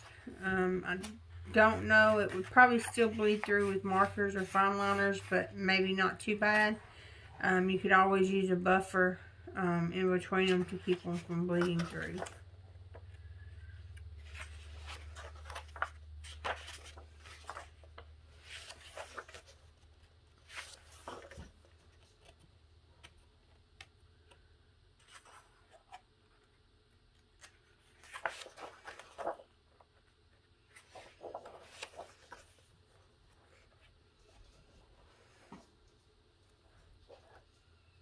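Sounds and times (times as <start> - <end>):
paper pages turning: 0.0 - 5.3, 10.4 - 38.0.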